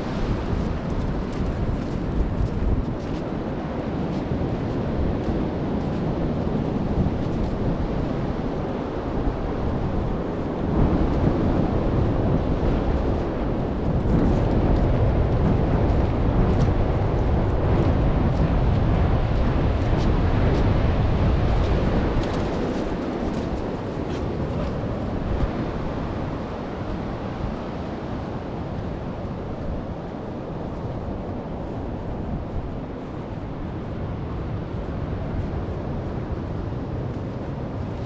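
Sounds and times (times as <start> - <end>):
surf washing on beach: 0.0 - 38.0
wind buffeting microphone: 0.0 - 38.0.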